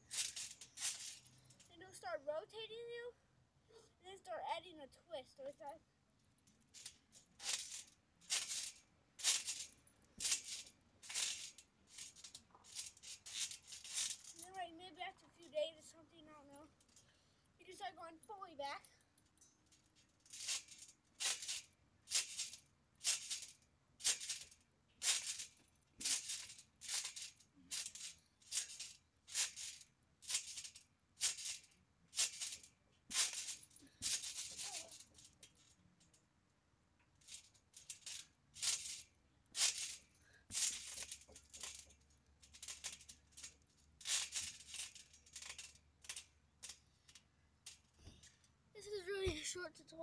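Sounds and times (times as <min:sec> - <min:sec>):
trampoline springs rattling: 0:00.0 - 0:02.9, 0:04.2 - 0:36.2, 0:37.1 - 0:49.6.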